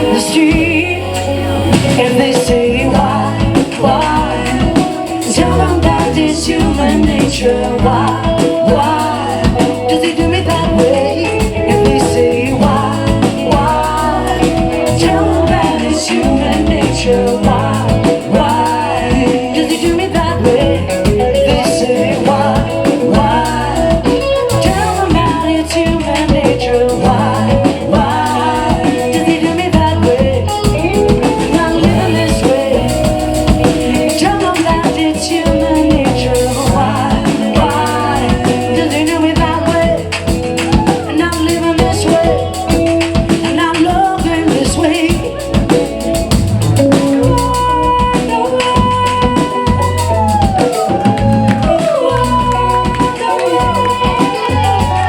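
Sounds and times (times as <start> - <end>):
live band playing: 0.0 - 55.0
person singing: 0.0 - 55.0.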